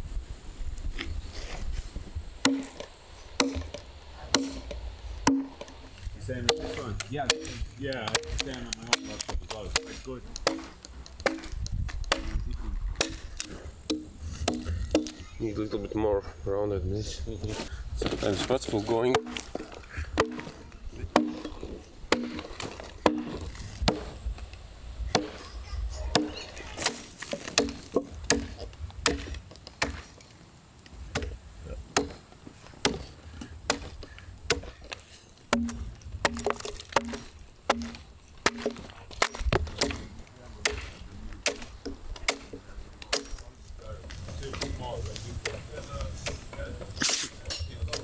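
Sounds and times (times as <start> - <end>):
hand tool chopping wood: 1.0 - 15.4, 17.5 - 48.0.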